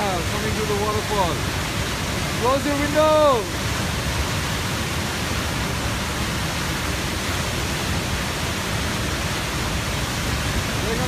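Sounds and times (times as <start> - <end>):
torrent pouring across road: 0.0 - 11.0
waterfall roaring: 0.0 - 11.0.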